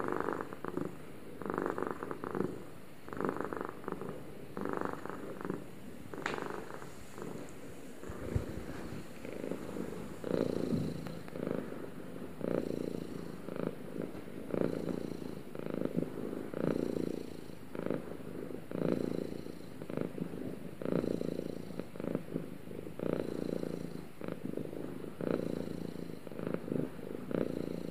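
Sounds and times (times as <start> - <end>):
cat purring: 0.0 - 27.9.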